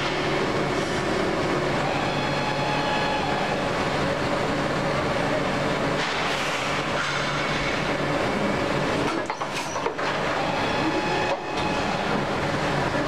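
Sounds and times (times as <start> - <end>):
injection moulding machine running: 0.0 - 13.0.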